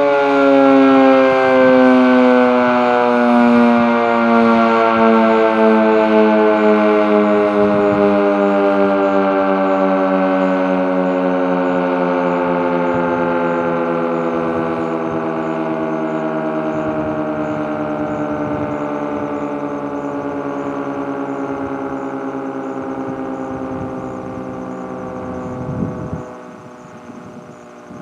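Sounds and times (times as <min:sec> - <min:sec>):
warning siren falling in pitch: 0:00.0 - 0:28.0.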